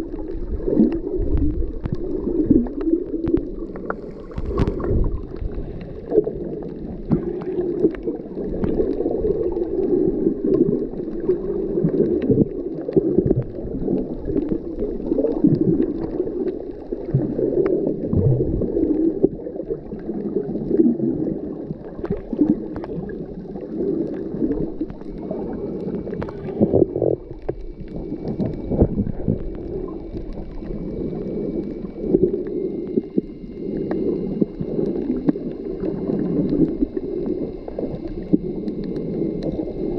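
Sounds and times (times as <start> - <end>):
faint thin whine: 0.0 - 39.9
underwater gurgling rush: 0.0 - 39.9.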